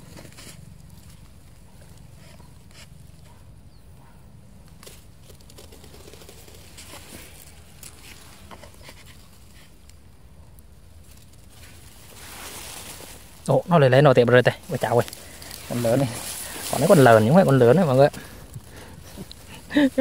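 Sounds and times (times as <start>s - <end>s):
rustling: 0.0s - 3.4s, 4.6s - 20.0s.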